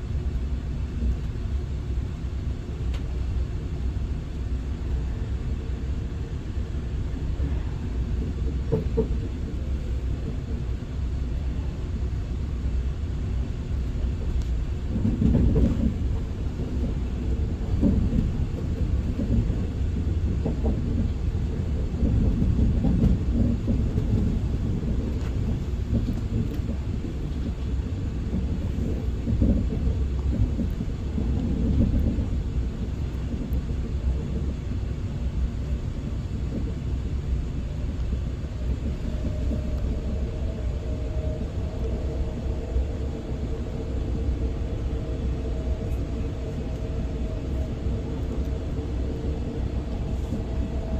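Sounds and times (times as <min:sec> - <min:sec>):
train cabin low rumble: 0:00.0 - 0:50.9.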